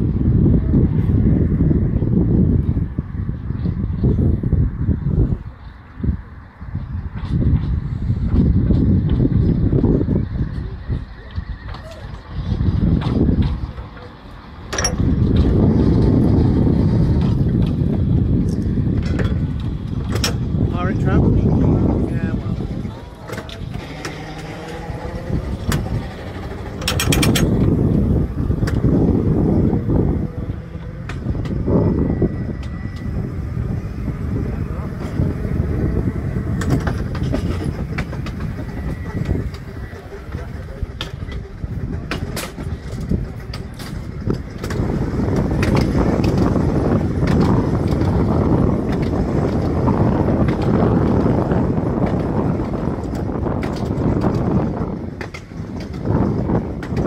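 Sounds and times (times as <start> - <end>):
steady rushing noise: 0.0 - 57.0
tram wheels rumbling on rails: 0.0 - 57.0.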